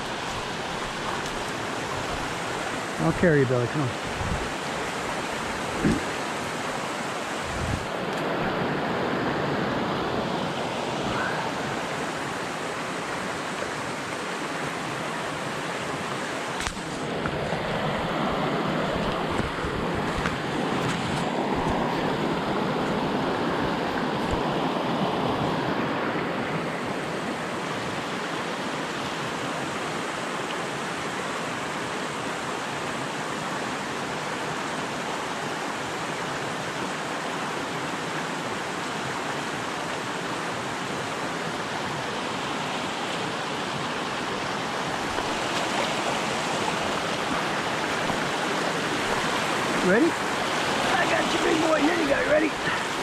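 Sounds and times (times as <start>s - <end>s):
creek rushing over stones: 0.0s - 53.0s.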